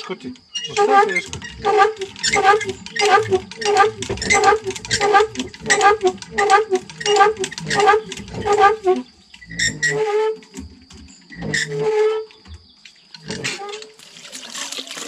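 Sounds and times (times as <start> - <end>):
windlass axle squeaking: 0.3 - 14.0.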